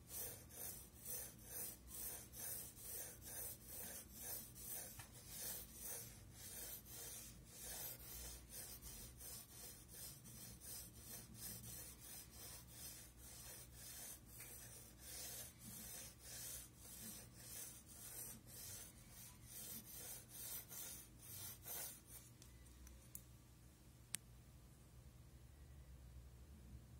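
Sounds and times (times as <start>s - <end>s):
pencil scratching on paper: 0.0s - 22.3s.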